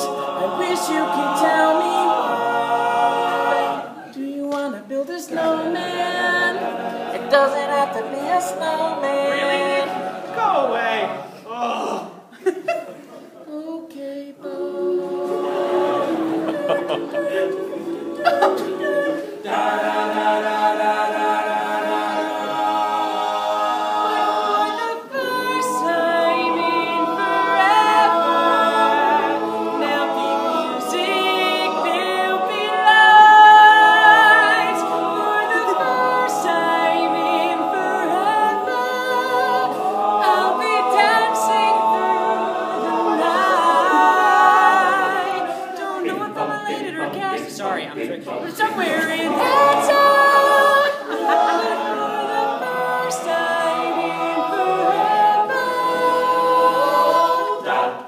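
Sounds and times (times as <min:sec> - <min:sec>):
male a cappella group singing: 0:00.0 - 0:12.3, 0:13.4 - 0:58.0.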